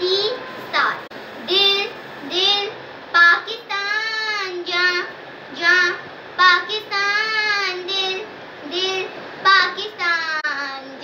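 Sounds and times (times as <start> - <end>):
girl singing alone: 0.0 - 11.0.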